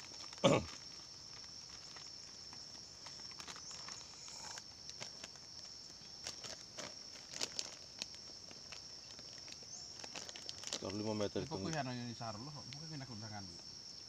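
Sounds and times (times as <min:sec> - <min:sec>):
clicks and rustles on sandy ground: 0:00.0 - 0:13.8.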